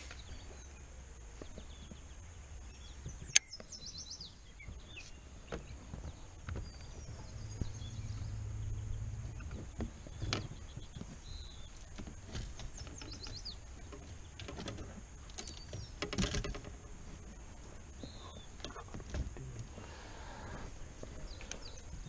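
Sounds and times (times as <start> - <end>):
small birds chirping: 0.0 - 22.0
low hum: 4.2 - 22.0.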